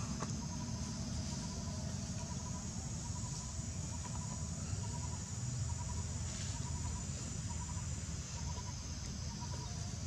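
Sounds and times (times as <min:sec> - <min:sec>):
faint chirps: 0:00.0 - 0:10.0.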